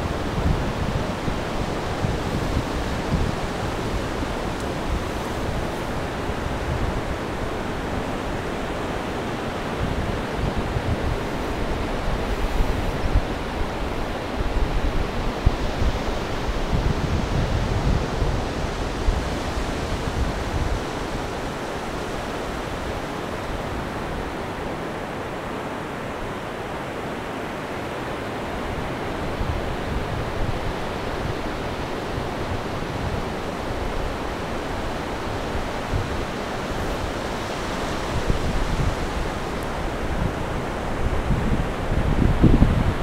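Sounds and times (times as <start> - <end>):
wind buffeting microphone: 0.0 - 24.8, 28.6 - 43.0
surf washing up beach: 0.0 - 43.0.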